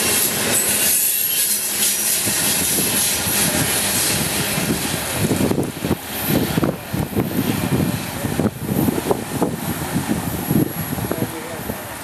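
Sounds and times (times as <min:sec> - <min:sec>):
freight train wheels clattering on rails: 0:00.0 - 0:12.0.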